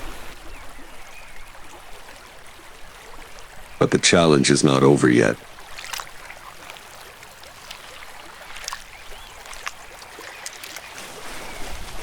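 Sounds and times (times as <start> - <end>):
small water splashes: 0.0 - 12.0
water trickling and lapping: 0.0 - 12.0.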